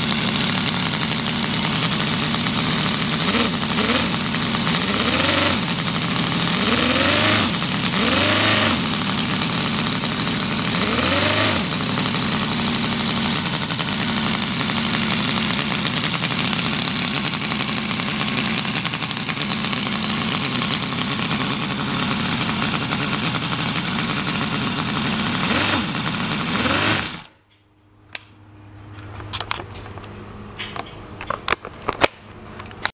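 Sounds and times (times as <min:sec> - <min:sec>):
miniature engine revving: 0:00.0 - 0:27.4.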